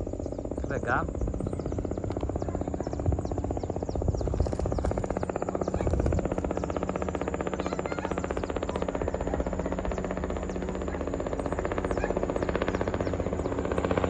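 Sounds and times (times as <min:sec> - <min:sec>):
helicopter engine rumble: 0:00.0 - 0:14.0
helicopter rotor chopping: 0:00.0 - 0:14.0.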